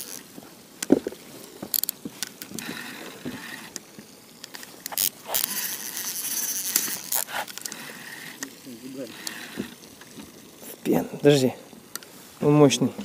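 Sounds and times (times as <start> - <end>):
fishing reel ratcheting and whirring: 0.0 - 12.1.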